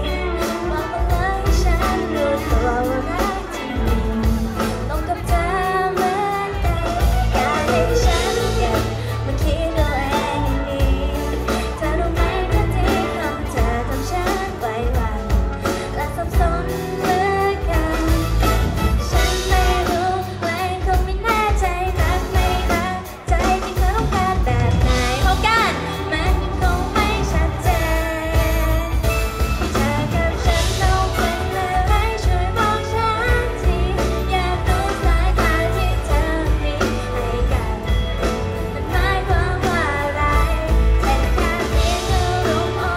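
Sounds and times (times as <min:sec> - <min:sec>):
band with drums and guitar: 0:00.0 - 0:42.9
woman singing pop song: 0:00.0 - 0:42.9.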